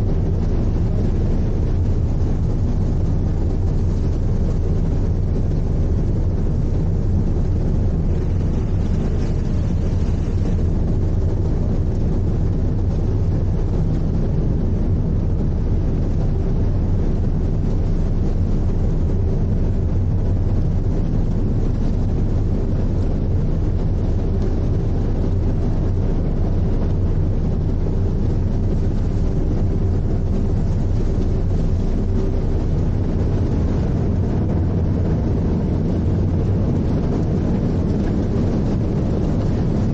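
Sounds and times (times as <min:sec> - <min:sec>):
rushing water noise: 0:00.0 - 0:39.9
ship engine drone: 0:00.0 - 0:39.9.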